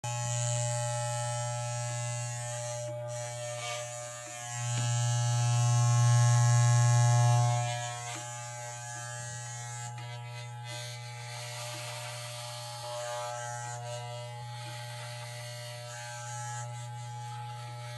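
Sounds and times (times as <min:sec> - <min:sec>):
electric hair clippers buzzing: 0:00.0 - 0:17.9.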